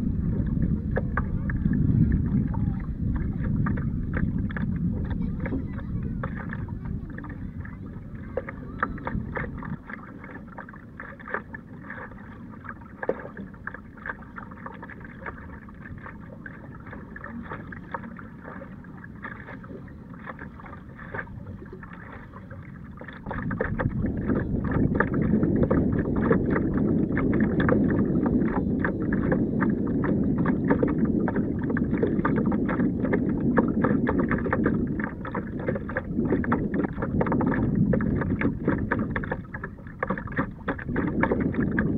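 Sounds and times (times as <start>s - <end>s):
water splashing against kayak: 0.0s - 41.9s
wind on microphone: 0.0s - 41.9s.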